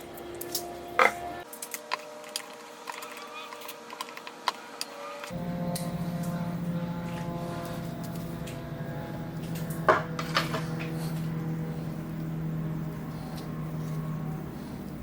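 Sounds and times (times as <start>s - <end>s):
machine electric hum: 0.0s - 15.0s.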